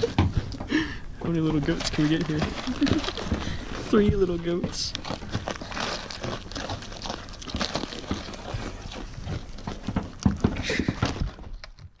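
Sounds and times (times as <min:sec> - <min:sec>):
goats nibbling at fence: 0:01.3 - 0:12.0.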